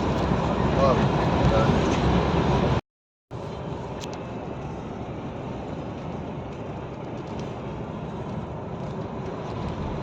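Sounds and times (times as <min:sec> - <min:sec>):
truck engine and road noise: 0:00.0 - 0:10.0.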